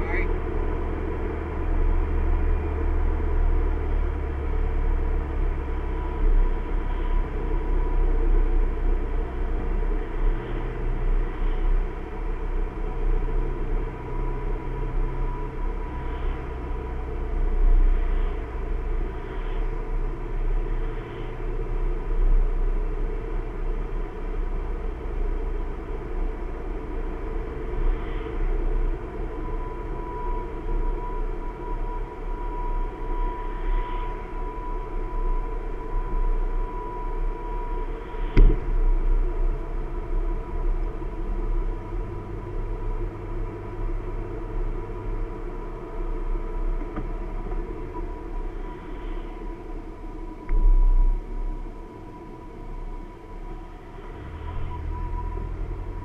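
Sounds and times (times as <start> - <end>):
car engine and tyre rumble: 0.0 - 56.0
thin steady whine: 0.0 - 56.0.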